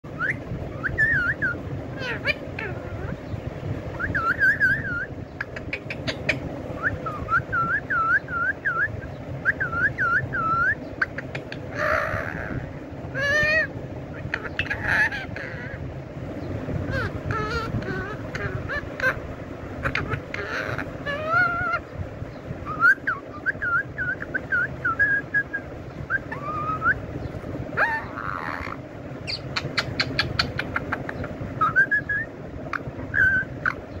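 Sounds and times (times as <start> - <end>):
parakeet whistles and chirps: 0.1 - 3.3, 3.9 - 12.6, 13.2 - 15.8, 16.9 - 19.2, 19.8 - 21.8, 22.6 - 34.0.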